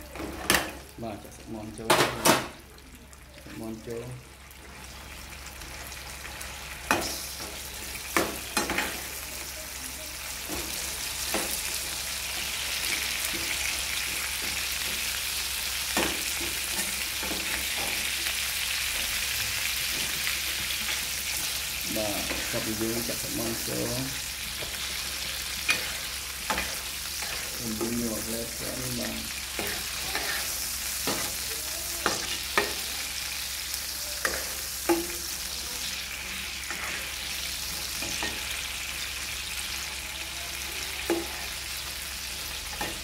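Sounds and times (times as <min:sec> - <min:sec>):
chicken sizzling in a wok: 0:00.0 - 0:43.0.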